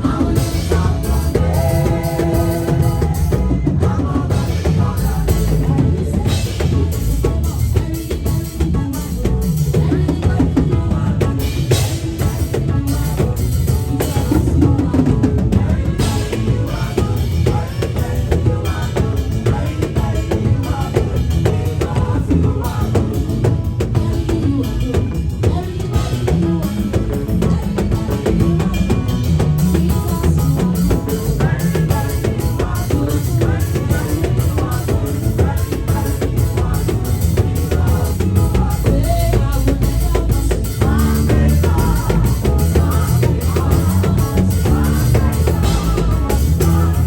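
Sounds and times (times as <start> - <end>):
band music with drum kit: 0.0 - 47.0
heavy bass line: 0.0 - 47.0.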